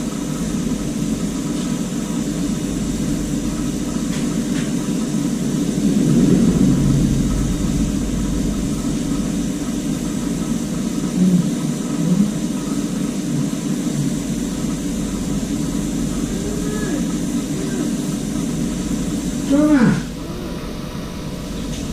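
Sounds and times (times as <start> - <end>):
torch flame roaring: 0.0 - 21.9.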